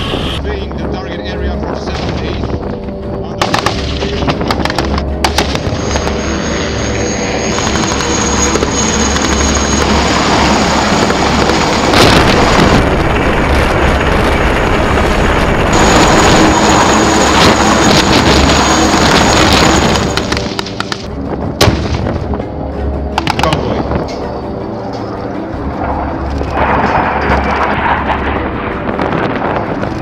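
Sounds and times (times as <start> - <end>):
helicopter rotor and turbine noise: 0.0 - 30.0
high turbine whine: 0.0 - 30.0.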